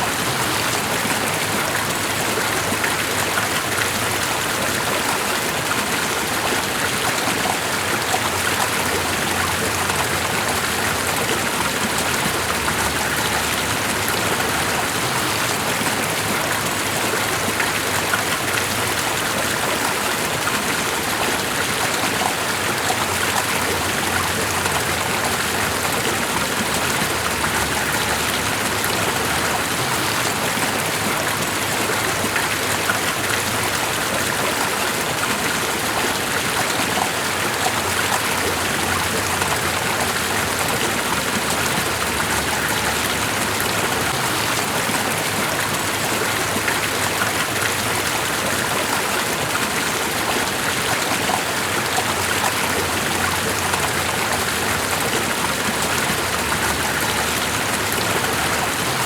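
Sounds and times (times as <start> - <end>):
rushing water splashing: 0.0 - 59.0.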